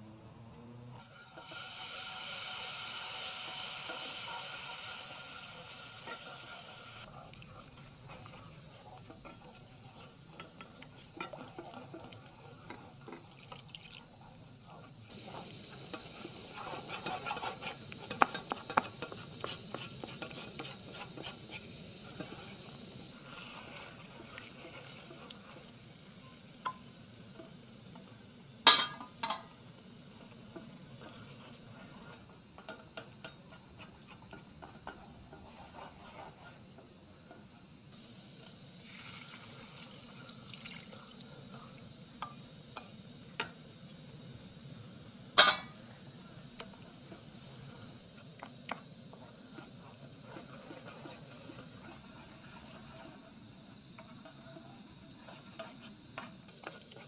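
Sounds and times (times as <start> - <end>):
wooden spoon stirring in pan: 1.0 - 43.4, 46.3 - 57.0
syrup sizzling in hot pan: 1.0 - 57.0.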